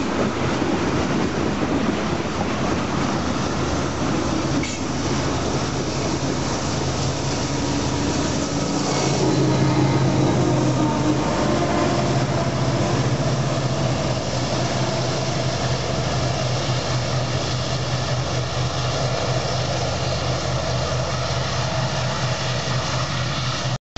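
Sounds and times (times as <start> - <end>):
diesel locomotive engine drone: 0.0 - 23.8
wheel-on-rail noise: 0.0 - 23.8.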